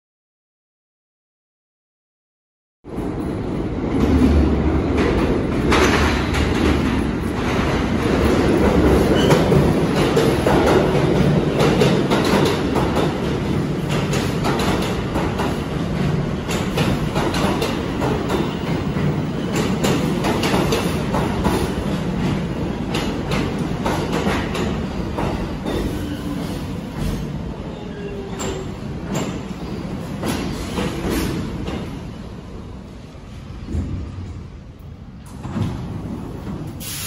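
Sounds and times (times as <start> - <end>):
subway train rumble: 2.8 - 37.0.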